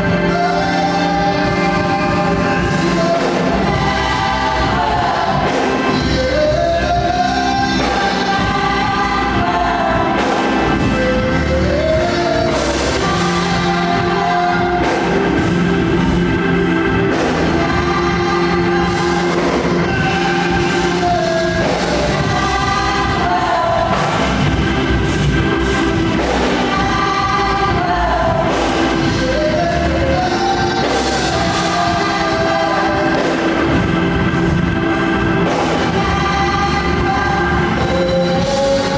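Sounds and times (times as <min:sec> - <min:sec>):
band playing held chords: 0:00.0 - 0:38.9
gospel choir singing: 0:00.0 - 0:38.9.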